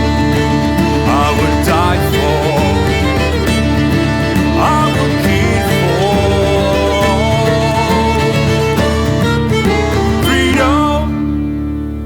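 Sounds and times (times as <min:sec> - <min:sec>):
band music with guitar: 0:00.0 - 0:12.0.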